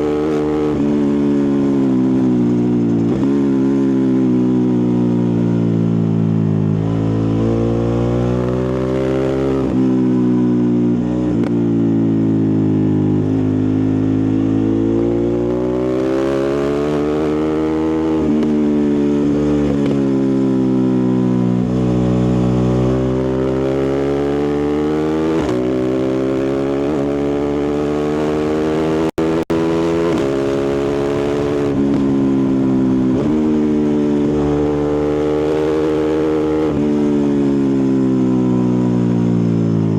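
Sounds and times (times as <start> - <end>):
motorcycle engine and exhaust revving: 0.0 - 39.9.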